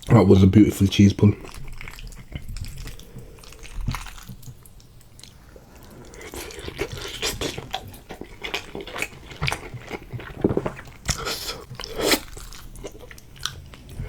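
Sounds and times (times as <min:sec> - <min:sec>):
person chewing food: 0:01.2 - 0:14.0.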